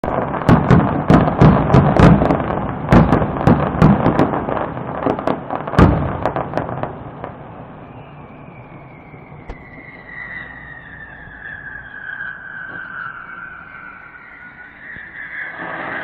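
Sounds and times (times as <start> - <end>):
fireworks crackle: 0.0 - 16.0
firework shells bursting: 0.1 - 16.0.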